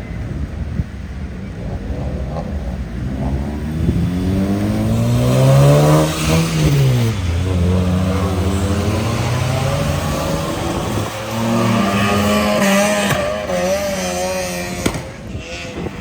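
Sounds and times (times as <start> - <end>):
car accelerating past: 1.5 - 16.0.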